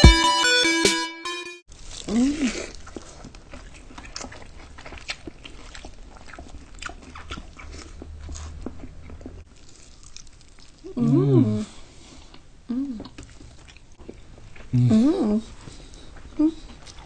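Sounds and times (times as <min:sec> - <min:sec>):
people chewing meat: 0:01.7 - 0:17.0.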